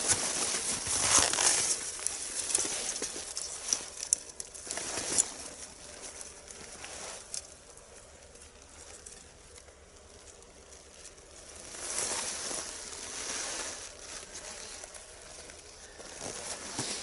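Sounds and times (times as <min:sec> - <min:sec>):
clothing rustling: 0:00.0 - 0:08.2, 0:10.6 - 0:17.0
crunching dry snow: 0:00.0 - 0:17.0.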